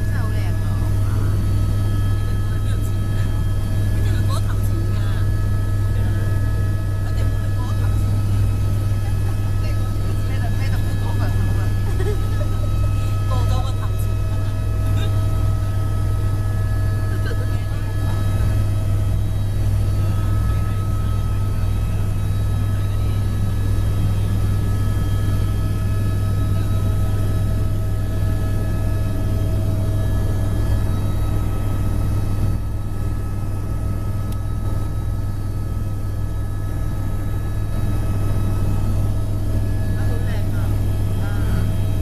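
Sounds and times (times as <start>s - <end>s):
helicopter rotor and turbine drone: 0.0s - 42.0s
steady whining tones: 0.0s - 42.0s.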